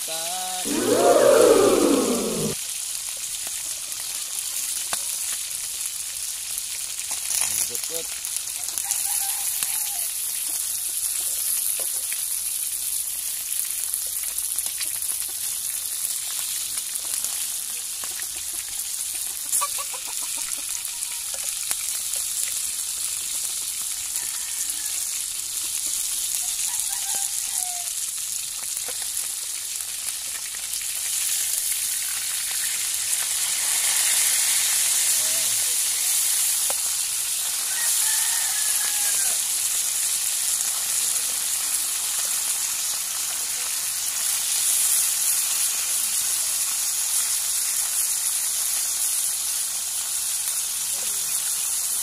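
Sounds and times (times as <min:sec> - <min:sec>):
fish sizzling in hot oil: 0:02.6 - 0:52.0.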